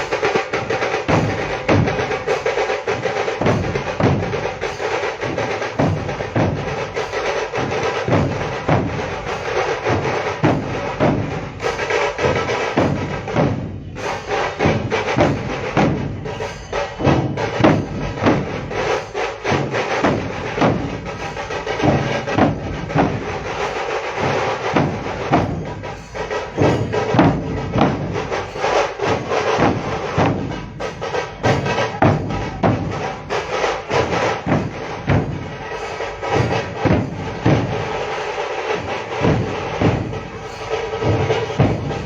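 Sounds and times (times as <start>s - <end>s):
rapid drum strokes: 0.0s - 42.0s.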